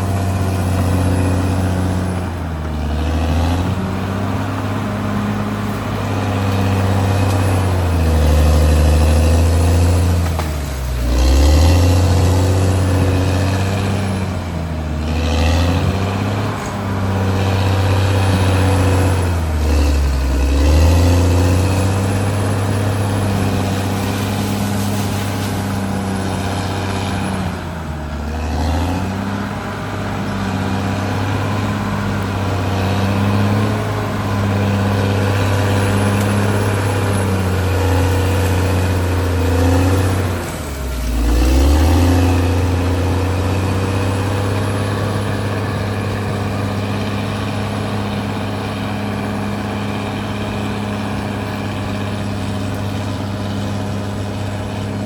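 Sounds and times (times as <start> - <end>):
bulldozer diesel engine lugging: 0.0 - 55.0.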